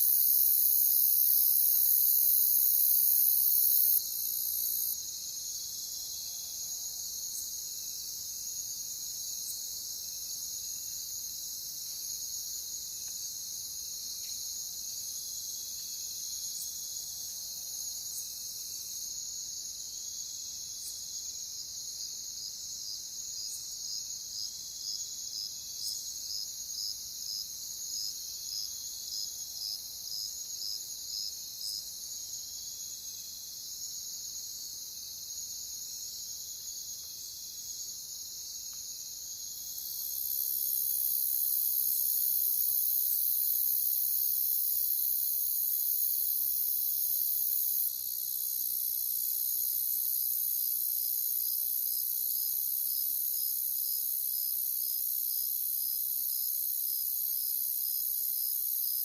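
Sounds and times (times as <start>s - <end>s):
crickets chirping chorus: 0.0s - 59.0s.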